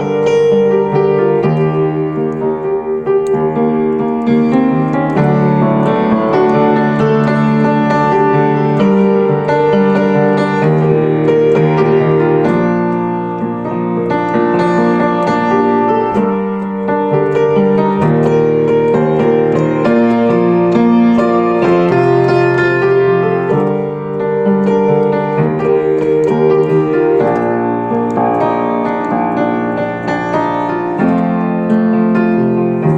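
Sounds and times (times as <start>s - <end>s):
keyboard chords and melody: 0.0s - 32.9s.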